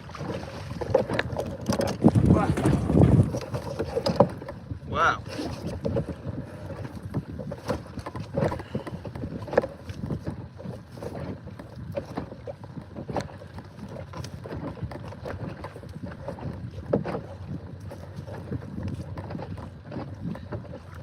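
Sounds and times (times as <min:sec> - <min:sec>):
knocks and clatter on kayak: 0:00.0 - 0:21.0.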